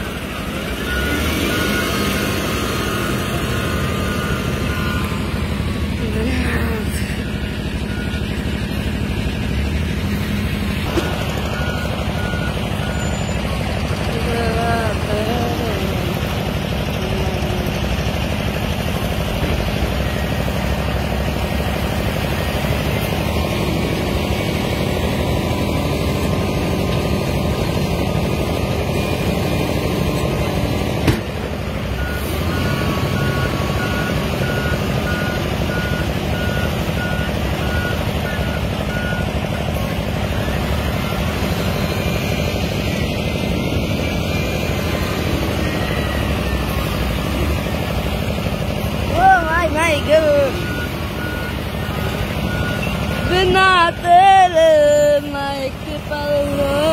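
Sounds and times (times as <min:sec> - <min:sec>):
reversing alarm beeping: 0:00.0 - 0:30.9, 0:31.5 - 0:56.9
wheel loader diesel engine running: 0:00.0 - 0:56.9.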